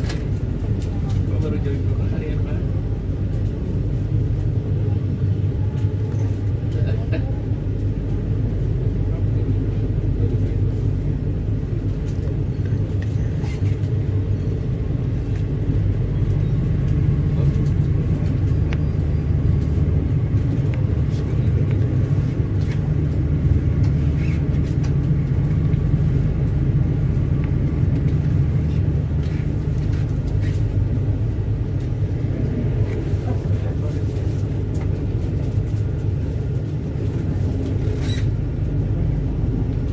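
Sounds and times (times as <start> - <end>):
passenger train rumble: 0.0 - 39.9.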